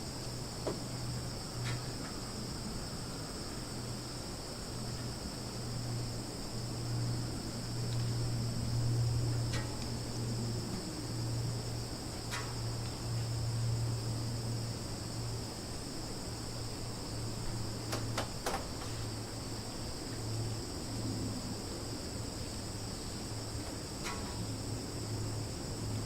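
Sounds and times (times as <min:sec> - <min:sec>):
crickets and insects chirping: 0:00.0 - 0:26.0.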